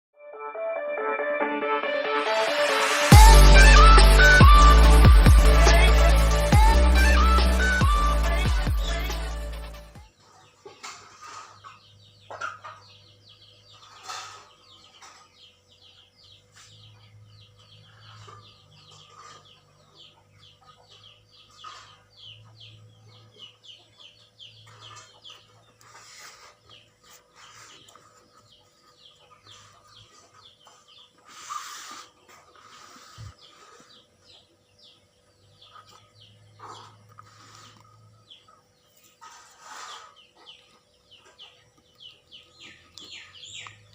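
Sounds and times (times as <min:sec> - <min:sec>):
birds chirping: 0:02.5 - 0:43.9.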